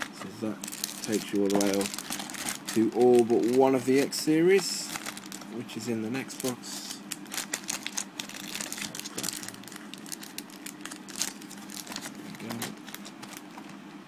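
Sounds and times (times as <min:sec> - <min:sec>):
foil wrappers crinkling: 0:00.0 - 0:13.8.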